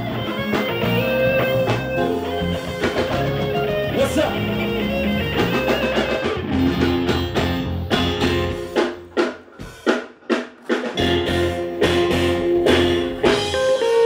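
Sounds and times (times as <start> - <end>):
guitar playing: 0.0 - 9.6, 10.8 - 14.0
bass guitar: 0.0 - 9.8, 10.7 - 14.0
drum kit: 0.0 - 14.0.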